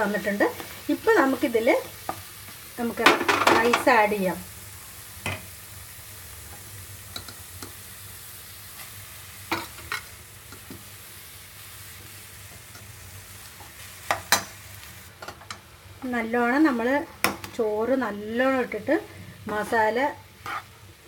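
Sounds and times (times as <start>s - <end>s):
masala sizzling in oil: 0.0s - 21.0s.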